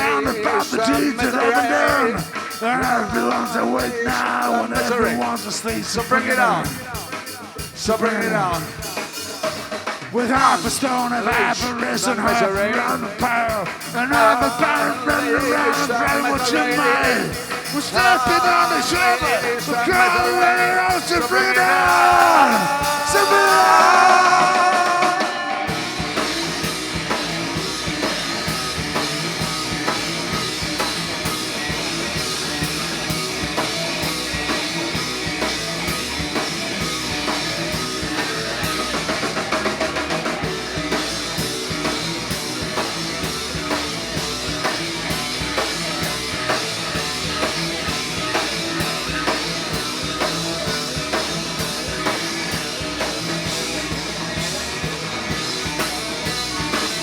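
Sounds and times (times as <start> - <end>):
drum kit steady beat: 0.0 - 57.0
instrumental rock music: 0.0 - 57.0.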